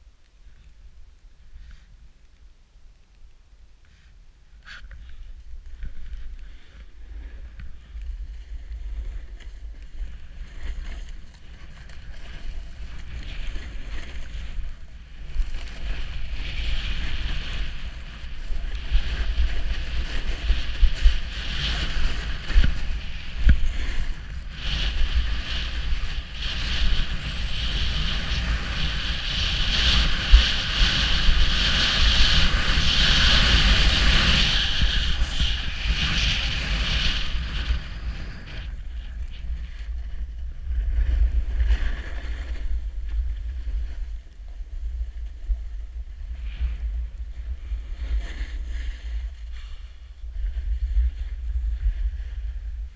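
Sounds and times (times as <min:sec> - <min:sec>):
skis scraping on snow: 0:03.9 - 0:52.9
wind buffeting microphone: 0:05.0 - 0:52.9.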